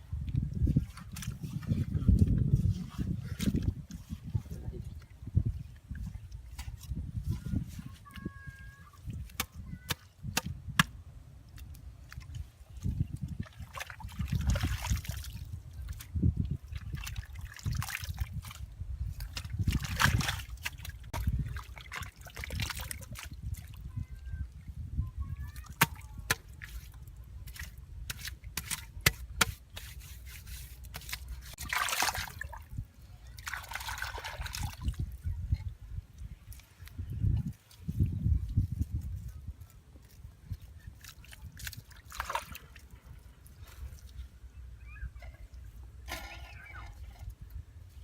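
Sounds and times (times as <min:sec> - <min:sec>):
water sloshing and trickling: 0:00.2 - 0:10.4, 0:11.4 - 0:48.0.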